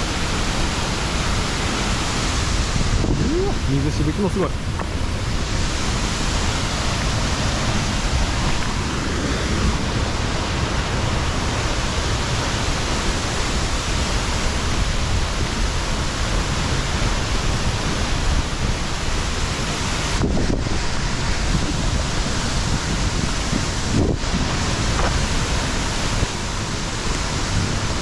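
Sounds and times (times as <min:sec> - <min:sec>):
waterfall crashing: 0:00.0 - 0:28.0.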